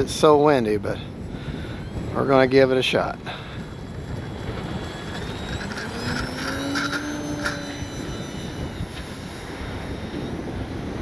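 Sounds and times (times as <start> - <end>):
electric model plane motor whining: 0.0 - 11.0
wind rumble on microphone: 0.0 - 11.0.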